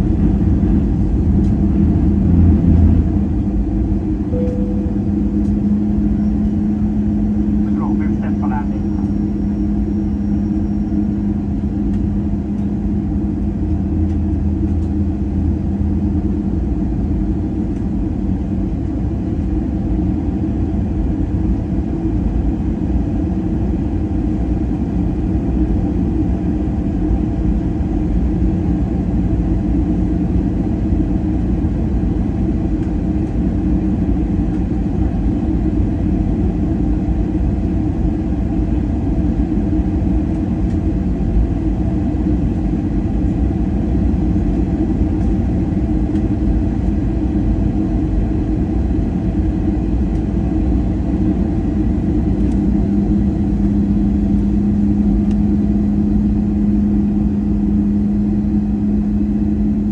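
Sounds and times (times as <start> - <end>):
airliner cabin drone: 0.0 - 59.9
jet engines and airflow: 0.0 - 59.9.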